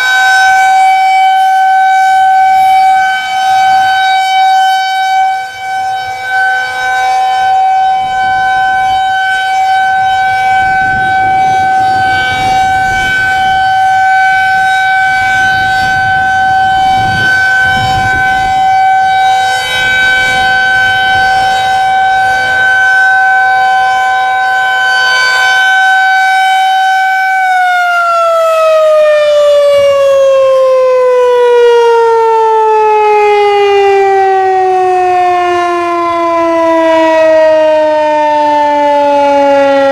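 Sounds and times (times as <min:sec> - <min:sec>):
tornado siren winding down: 0:00.0 - 0:39.9.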